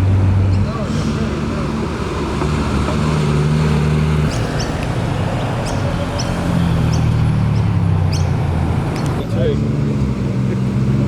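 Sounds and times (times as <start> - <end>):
car engines rolling past: 0.0 - 11.0.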